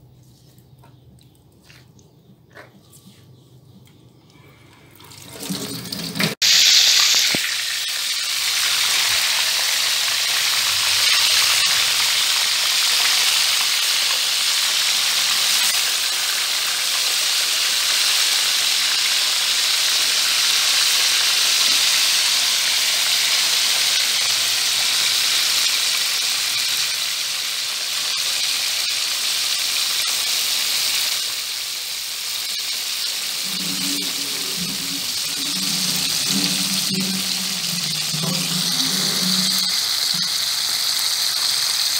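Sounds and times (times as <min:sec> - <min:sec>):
fish sizzling in hot oil: 0:06.3 - 0:41.9.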